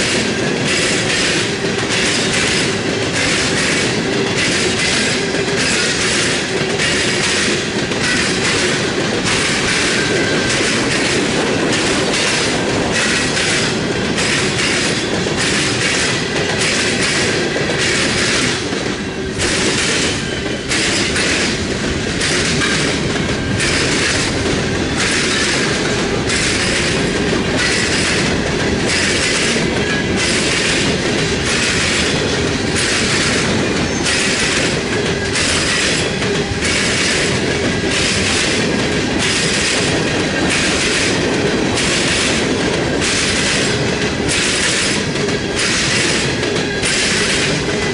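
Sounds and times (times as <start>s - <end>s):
train wheels clattering over rail joints: 0.0s - 47.9s.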